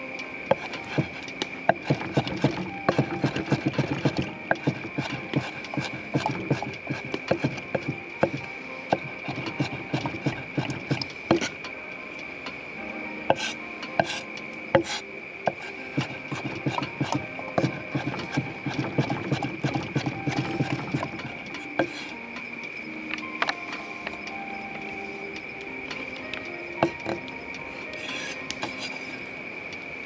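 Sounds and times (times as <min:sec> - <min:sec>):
steady high-pitched tone: 0:00.0 - 0:30.0.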